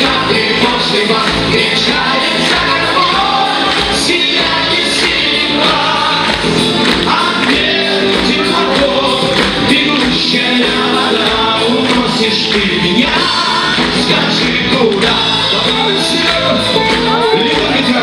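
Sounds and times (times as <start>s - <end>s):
bass guitar: 0.0s - 18.0s
drum kit: 0.0s - 18.0s
electric guitars: 0.0s - 18.0s
keyboard: 0.0s - 18.0s
person singing: 0.0s - 18.0s.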